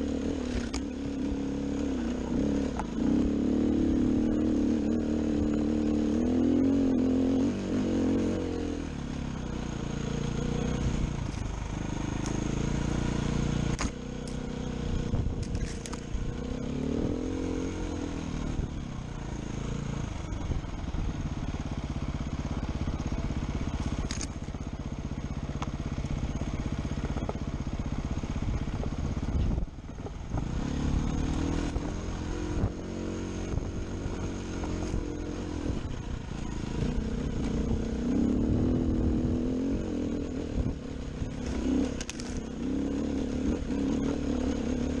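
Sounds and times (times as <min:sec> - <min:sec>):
dirt bike engine: 0:00.0 - 0:45.0.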